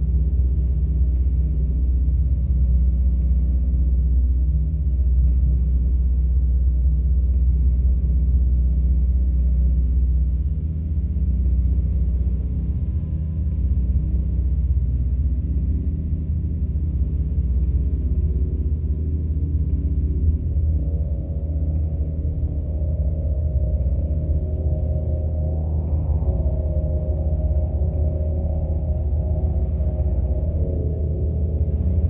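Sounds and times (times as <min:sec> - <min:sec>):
deep synthesizer drone: 0:00.0 - 0:32.0.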